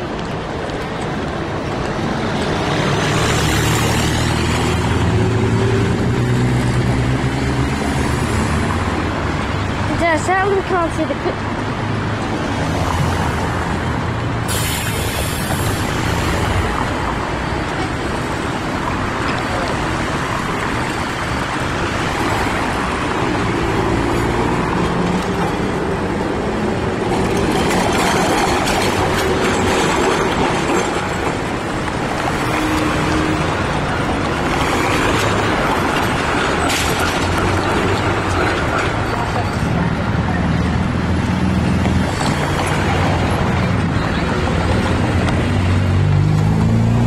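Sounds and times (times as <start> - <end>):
cars passing close by: 0.0 - 47.0
tram moving: 0.0 - 47.0.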